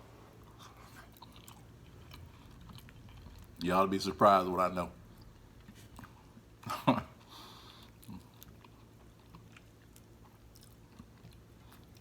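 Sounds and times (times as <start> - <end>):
quiet chewing with wet clicks: 0.4 - 3.7, 5.1 - 12.0.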